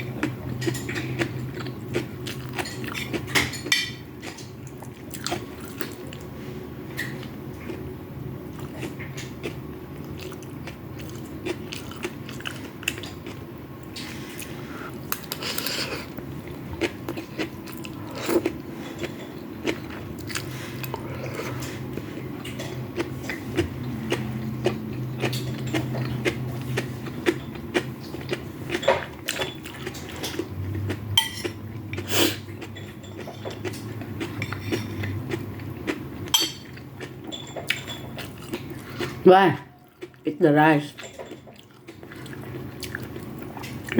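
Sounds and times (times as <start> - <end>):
chewing food: 0.0 - 43.9
steady low hum: 0.0 - 43.9.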